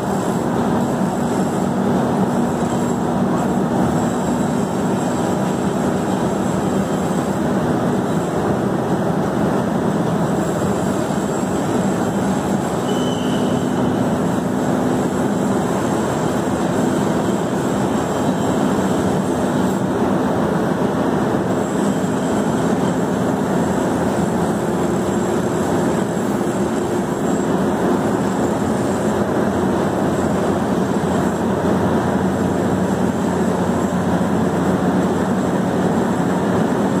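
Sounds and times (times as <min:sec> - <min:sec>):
pump machine humming: 0:00.0 - 0:37.0.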